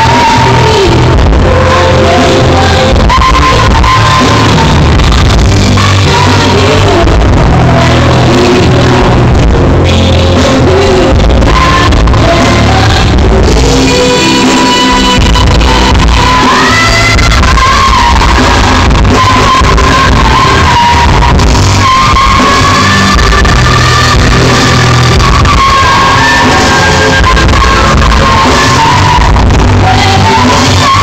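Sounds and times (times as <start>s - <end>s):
live band with electric guitar: 0.0s - 31.0s
woman singing into microphone: 0.0s - 31.0s.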